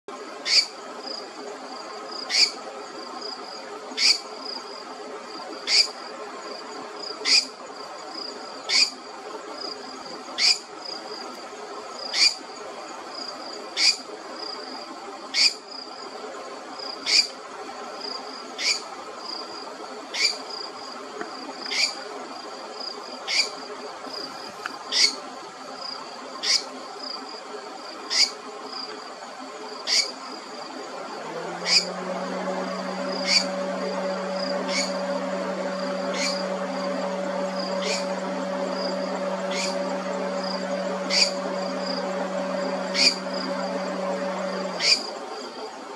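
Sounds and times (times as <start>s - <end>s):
insects chirring: 0.2s - 45.7s.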